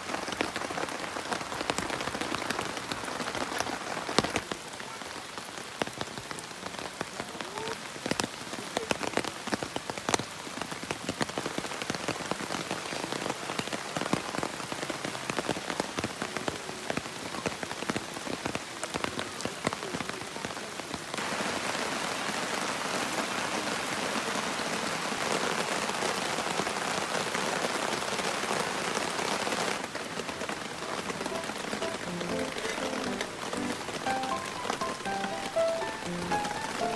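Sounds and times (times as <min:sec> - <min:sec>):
raindrops clicking on a surface: 0:00.0 - 0:22.4, 0:23.0 - 0:36.9
heavy rain: 0:00.0 - 0:36.9.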